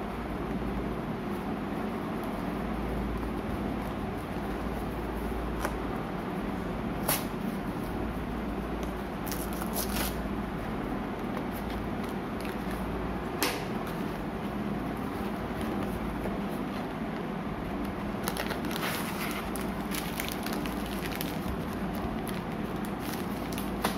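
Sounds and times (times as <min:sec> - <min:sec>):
steady hiss and low hum: 0:00.0 - 0:23.9.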